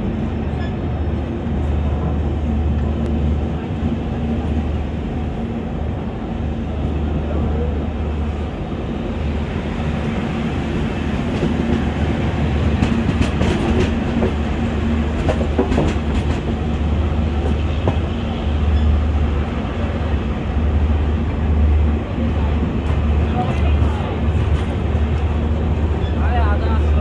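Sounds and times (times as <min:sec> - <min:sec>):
train running gear rumble: 0:00.0 - 0:27.0.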